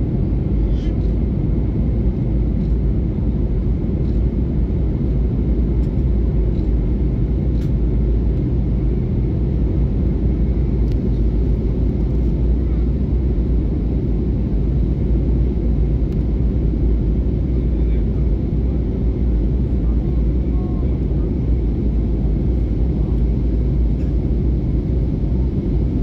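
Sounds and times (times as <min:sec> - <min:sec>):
airliner engines rumbling: 0:00.0 - 0:26.0.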